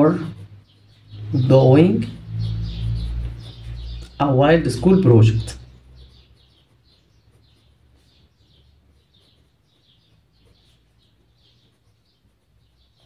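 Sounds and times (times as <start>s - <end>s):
marker squeaking on paper: 0.0s - 13.0s.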